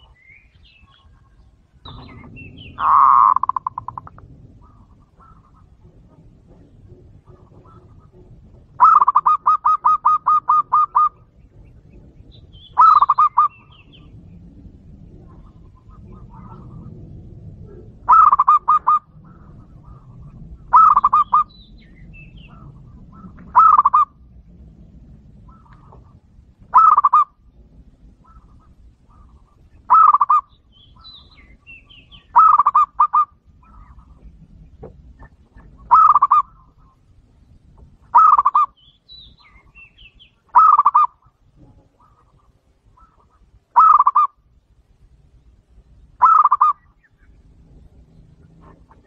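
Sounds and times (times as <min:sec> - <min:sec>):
dove cooing: 0:00.8 - 0:37.2, 0:38.1 - 0:44.5, 0:46.2 - 0:49.0.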